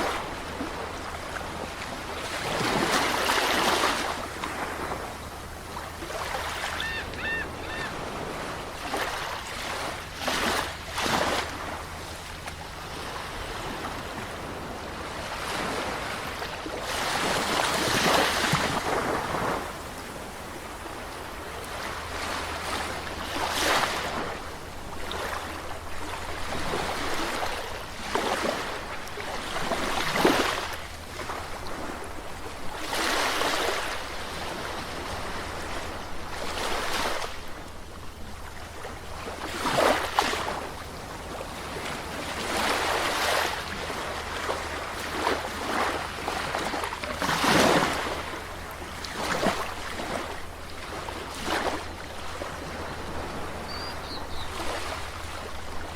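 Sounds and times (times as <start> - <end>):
sea waves breaking on a beach: 0.0 - 55.9.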